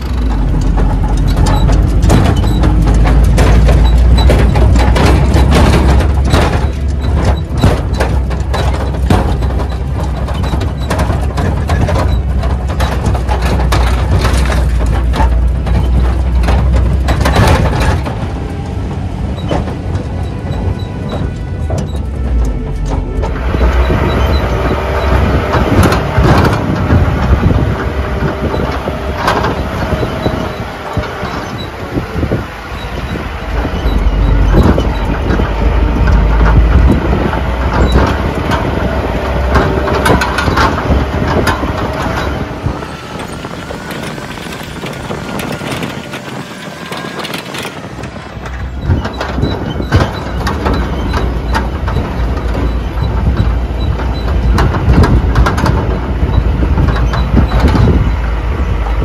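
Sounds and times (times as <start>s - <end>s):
vehicle body rattling and knocking: 0.0s - 59.0s
vehicle engine running: 0.0s - 59.0s.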